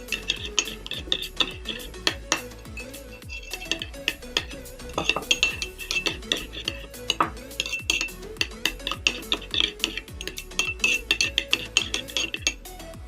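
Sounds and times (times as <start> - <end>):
spoon scraping a bowl: 0.0 - 12.7
background music: 0.0 - 13.0.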